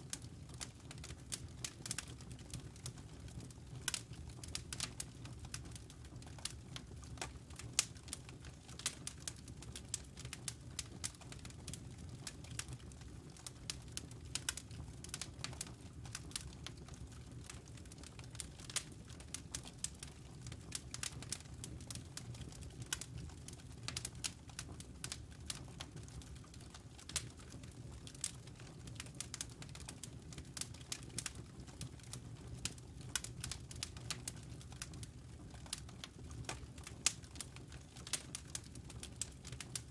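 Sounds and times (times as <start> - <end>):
campfire crackling and popping: 0.0 - 39.9
low fire rumble: 0.0 - 39.9.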